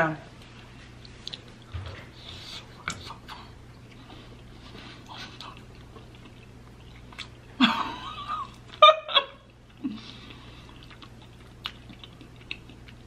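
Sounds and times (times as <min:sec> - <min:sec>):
person chewing: 0:00.4 - 0:07.6, 0:09.4 - 0:13.0.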